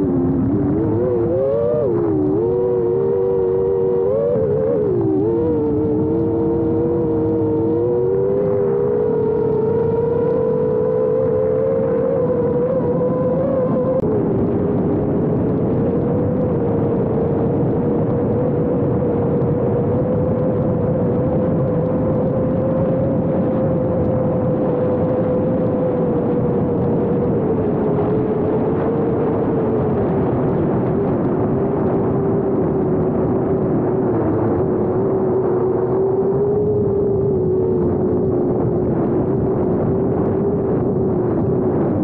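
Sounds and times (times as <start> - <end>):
drone propellers whining: 0.0 - 42.0.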